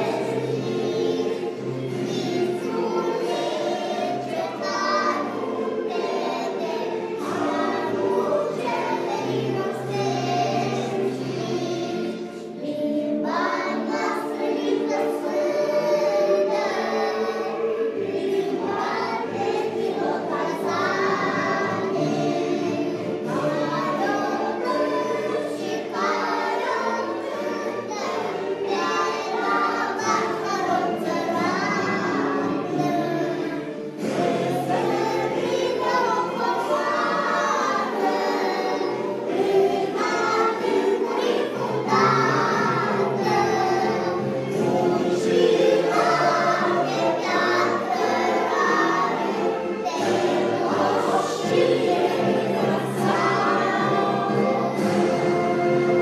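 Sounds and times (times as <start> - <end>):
choir singing: 0.0 - 56.0
musical accompaniment: 0.0 - 56.0.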